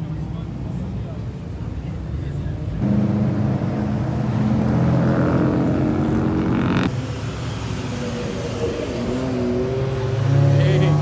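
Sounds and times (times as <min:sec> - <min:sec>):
car engines in passing traffic: 0:00.0 - 0:11.0.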